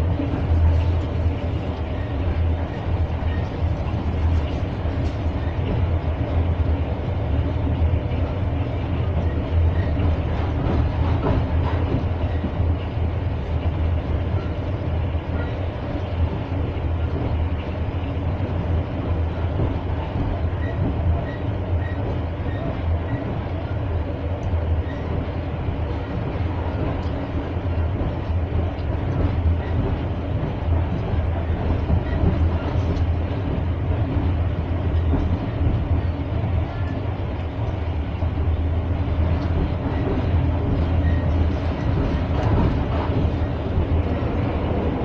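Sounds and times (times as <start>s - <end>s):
train wheels rumbling on track: 0.0s - 45.0s.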